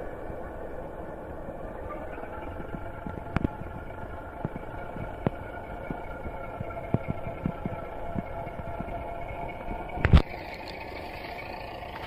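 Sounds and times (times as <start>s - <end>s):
diesel engine running through small speaker: 1.6s - 12.0s.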